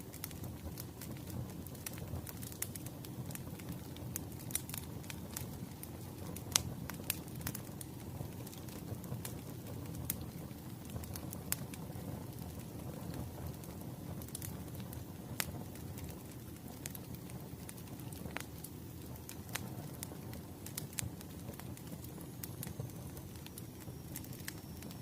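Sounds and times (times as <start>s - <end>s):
fire rumbling: 0.0s - 25.0s
firewood crackling and popping: 0.0s - 25.0s.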